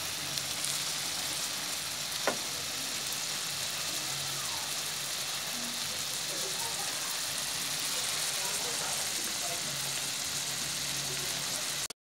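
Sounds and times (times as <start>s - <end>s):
shrimp sizzling in butter: 0.0s - 11.9s.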